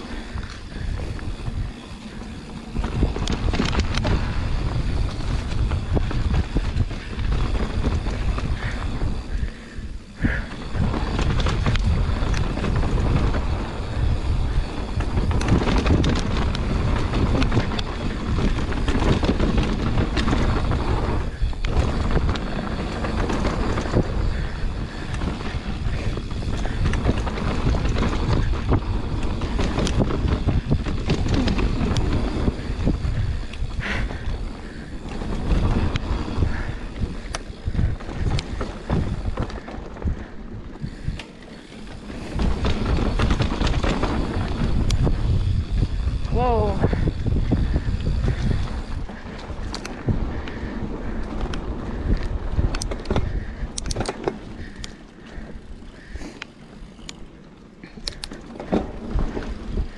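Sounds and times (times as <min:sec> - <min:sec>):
bike clicking and rattling: 0:00.0 - 0:59.9
tyres rolling over dirt: 0:00.0 - 0:59.9
wind buffeting microphone: 0:00.0 - 0:59.9.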